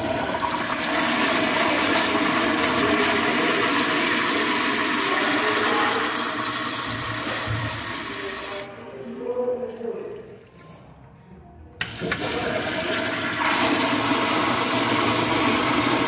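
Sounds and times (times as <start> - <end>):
toilet flushing: 0.0 - 8.8, 11.8 - 16.0.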